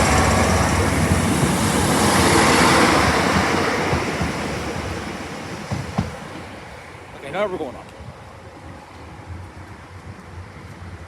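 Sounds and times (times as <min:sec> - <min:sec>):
train passing: 0:00.0 - 0:11.0.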